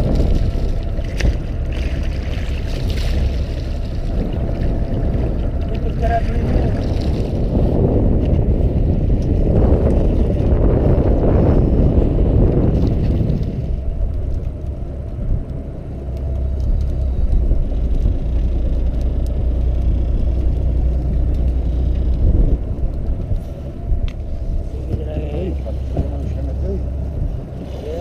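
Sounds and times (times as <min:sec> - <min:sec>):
boat engine rumbling: 0:00.0 - 0:28.0
wind buffeting microphone: 0:00.0 - 0:28.0.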